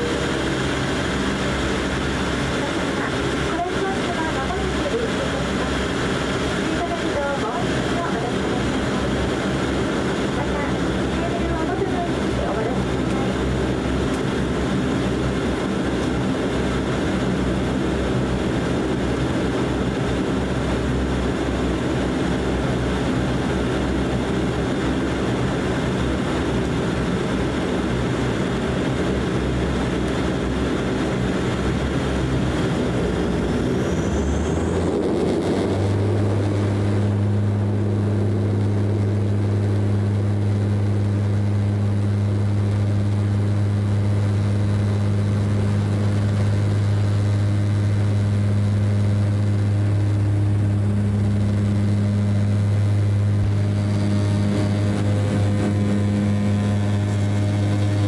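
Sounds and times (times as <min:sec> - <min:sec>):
deep propeller drone: 0:00.0 - 0:58.0
turboprop engines whine: 0:00.0 - 0:58.0.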